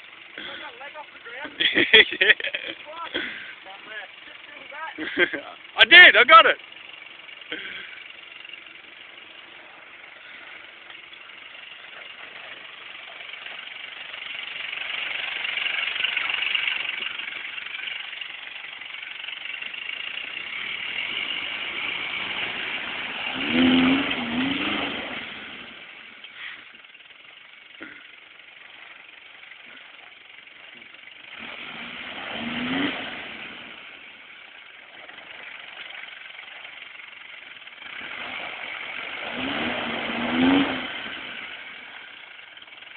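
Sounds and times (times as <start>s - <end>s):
engine revving: 0.0s - 26.8s, 29.6s - 42.9s.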